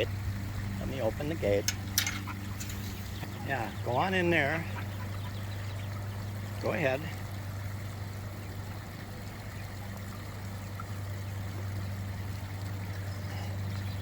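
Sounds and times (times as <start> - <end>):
low steady hum: 0.0 - 14.0
pond waterfall running: 0.0 - 14.0.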